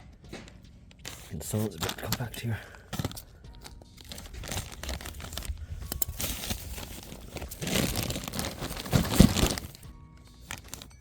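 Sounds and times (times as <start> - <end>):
digging soil in plastic bag: 1.0 - 11.0.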